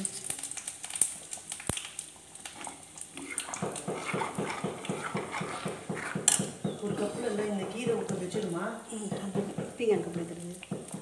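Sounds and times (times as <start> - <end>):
stew bubbling in a pan: 0.0 - 11.0
ladle stirring wet food: 1.0 - 11.0.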